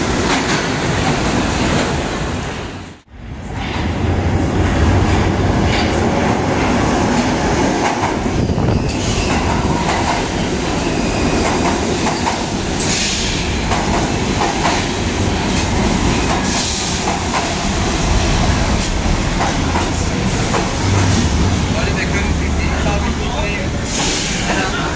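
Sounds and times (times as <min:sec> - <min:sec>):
subway train rumbling: 0:00.0 - 0:24.9.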